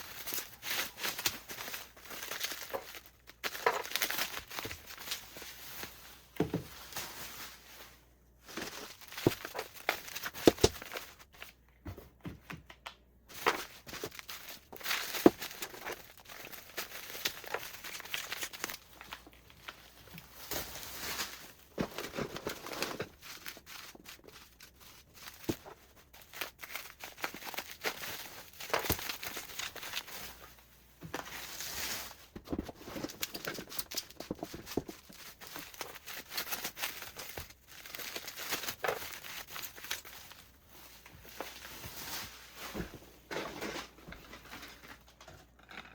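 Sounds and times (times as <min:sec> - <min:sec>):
cardboard tearing and crinkling: 0:00.0 - 0:06.0, 0:08.5 - 0:11.5, 0:13.4 - 0:30.5, 0:31.2 - 0:44.9.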